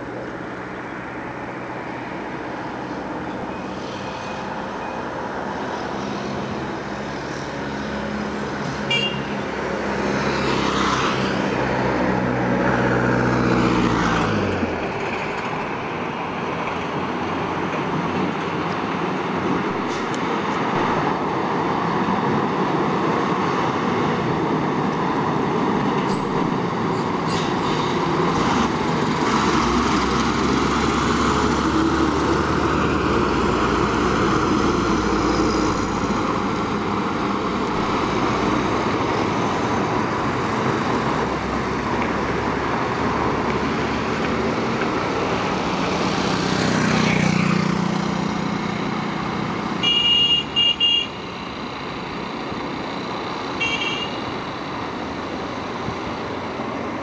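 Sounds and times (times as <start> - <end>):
fire engines driving past: 0.0 - 57.0
tyre and road noise: 0.0 - 57.0.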